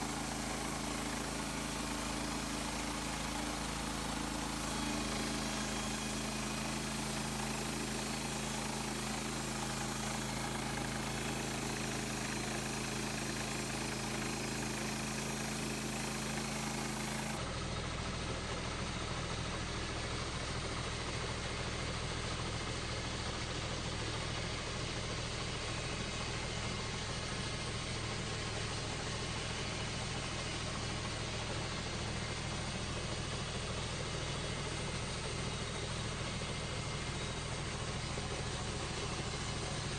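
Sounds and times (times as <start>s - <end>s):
gasoline engine running: 0.0s - 20.5s, 21.2s - 39.9s.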